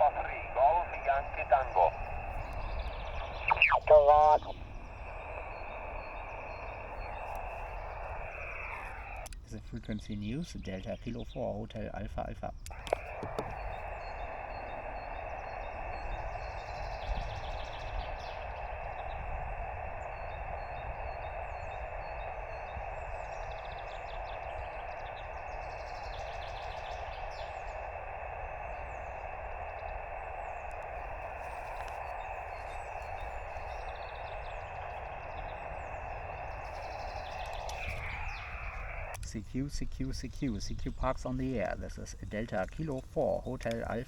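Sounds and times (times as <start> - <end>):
birds chirping faintly: 0.0 - 44.0
radio receiver hiss: 0.0 - 44.0.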